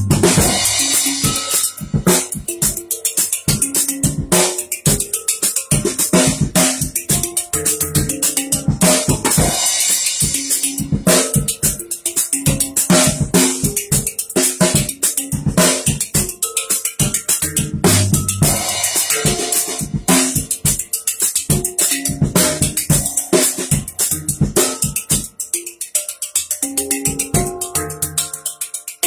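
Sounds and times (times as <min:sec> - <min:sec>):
drum kit groove: 0:00.0 - 0:29.0
ringing handpan notes: 0:00.0 - 0:29.0.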